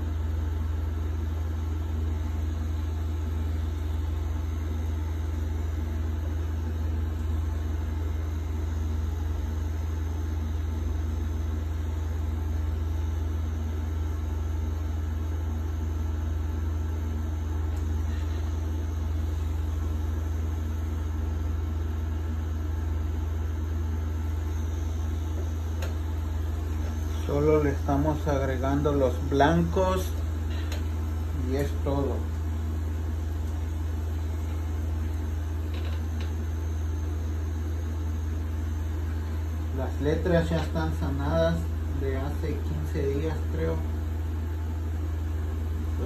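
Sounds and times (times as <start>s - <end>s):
tattoo machine humming: 0.0s - 43.8s.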